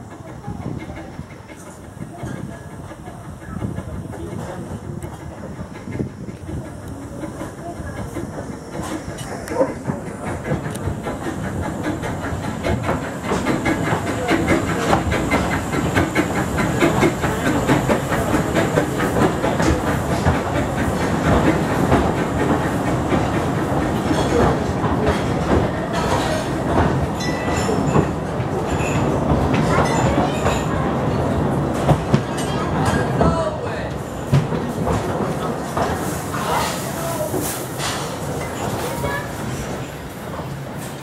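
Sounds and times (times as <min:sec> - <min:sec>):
train wheels clattering over rail joints: 0:00.0 - 0:41.0.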